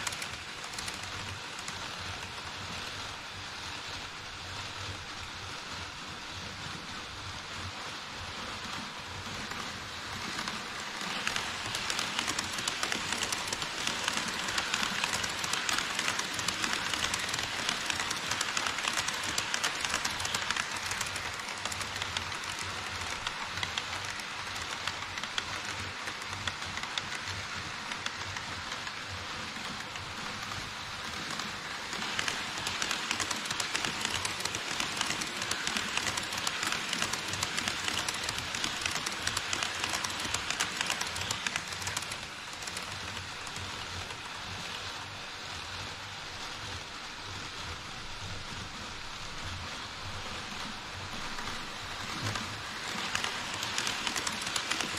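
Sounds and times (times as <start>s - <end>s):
model train wheels clicking over rails: 0.0s - 54.9s.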